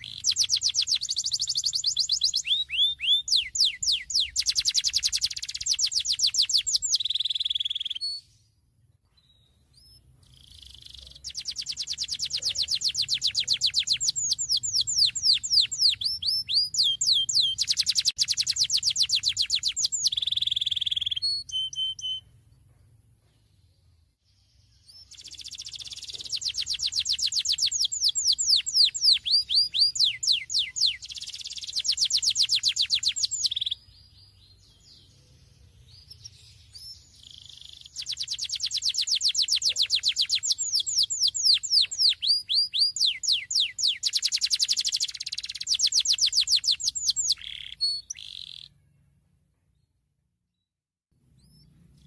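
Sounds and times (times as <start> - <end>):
canary singing rapid trills: 0.0 - 8.3, 9.8 - 22.3, 24.9 - 34.0, 34.6 - 48.8.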